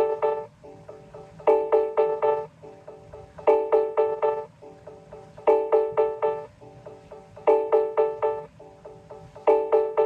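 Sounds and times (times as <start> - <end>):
electronic chime countdown tone: 0.0 - 10.0.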